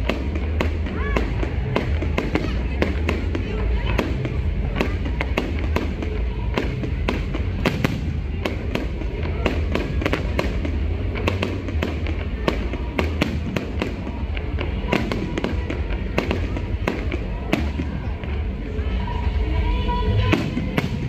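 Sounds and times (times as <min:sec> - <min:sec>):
fireworks cracking and popping: 0:00.0 - 0:18.3, 0:20.2 - 0:21.0.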